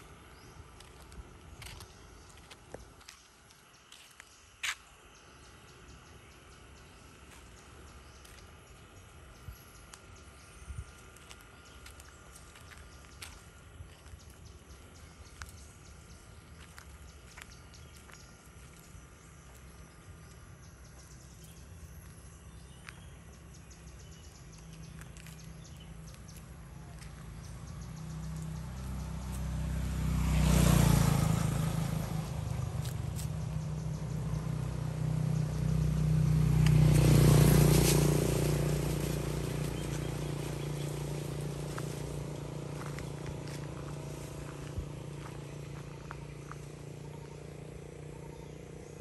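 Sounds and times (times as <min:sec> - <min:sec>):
vehicles passing on road: 0:00.0 - 0:49.0.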